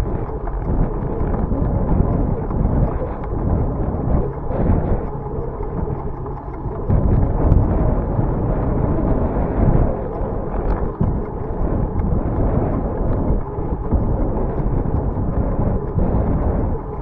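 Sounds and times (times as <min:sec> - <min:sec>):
faint clicks: 0:00.0 - 0:17.0
wind buffeting microphone: 0:00.0 - 0:17.0.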